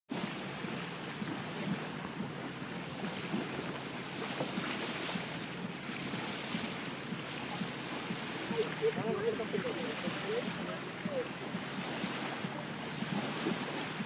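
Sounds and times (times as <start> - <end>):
water washing along hull: 0.1 - 14.0
wind rumbling on microphone: 0.1 - 14.0.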